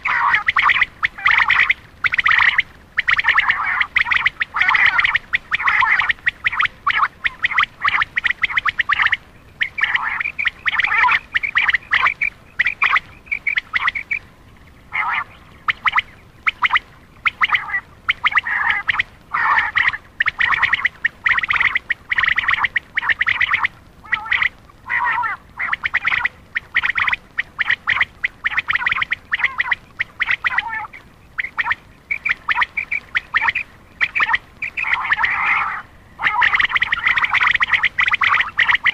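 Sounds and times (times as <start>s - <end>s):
quail calls: 0.0s - 38.9s.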